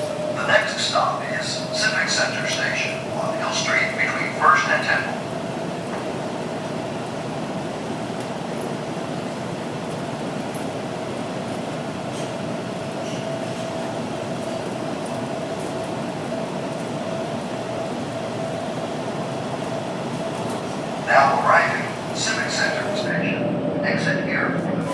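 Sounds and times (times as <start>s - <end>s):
subway car steady hum: 0.0s - 24.9s
wheels rumbling on rail: 0.0s - 24.9s.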